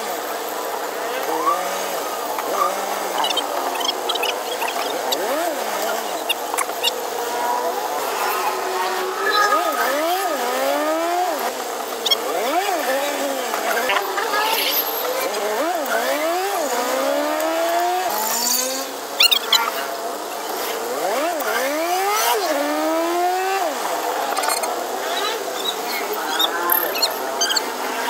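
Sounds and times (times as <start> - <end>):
vehicle engine accelerating: 1.0 - 19.2, 20.2 - 28.0.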